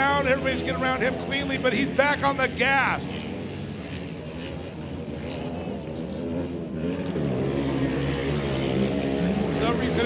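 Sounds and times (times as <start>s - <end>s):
kart engines revving: 0.0s - 10.0s.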